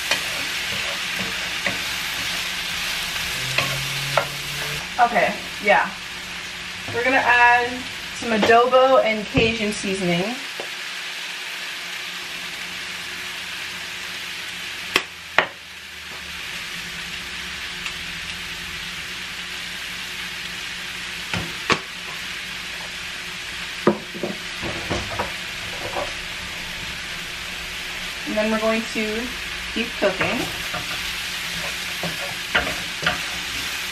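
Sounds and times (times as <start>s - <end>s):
shrimp sizzling in a frying pan: 0.0s - 33.9s.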